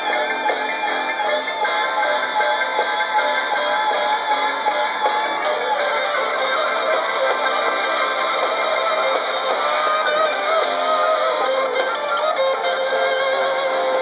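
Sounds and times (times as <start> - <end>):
rock music on small speakers: 0.0 - 14.0.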